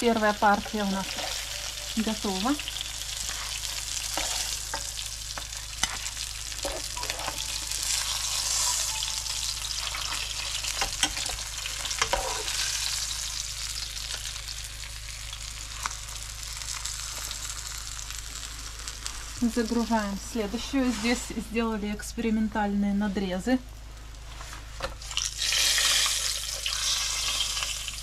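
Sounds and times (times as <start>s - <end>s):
fish sizzling in frying pan: 0.0s - 21.2s, 24.0s - 28.0s.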